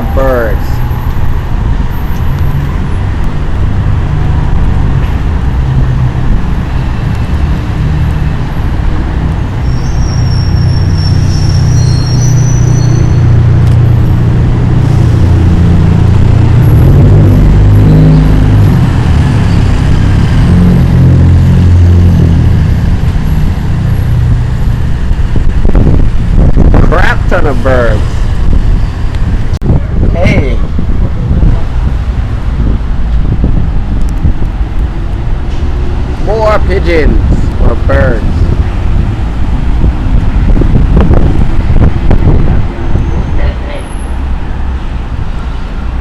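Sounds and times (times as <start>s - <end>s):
wind buffeting microphone: 0.9s - 9.6s, 12.8s - 46.0s.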